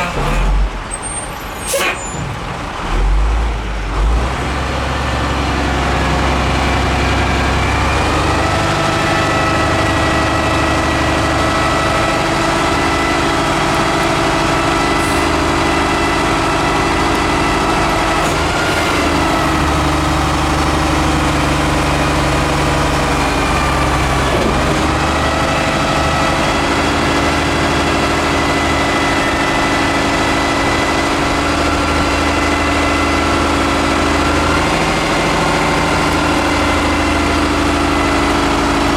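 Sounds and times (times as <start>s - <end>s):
garbage truck diesel engine running: 0.0s - 38.9s.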